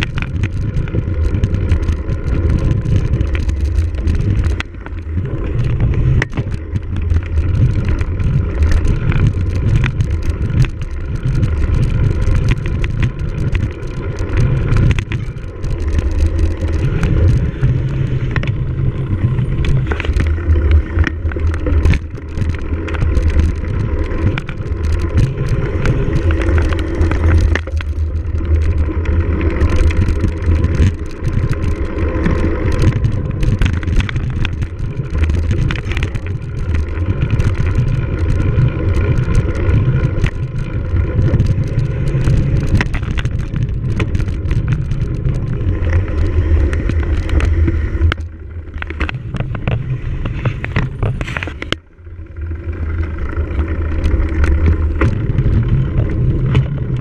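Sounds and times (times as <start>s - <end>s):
wind on microphone: 0.0s - 51.8s
bike rattling and clicking: 0.0s - 57.0s
tyres rumbling over rough ground: 0.0s - 57.0s.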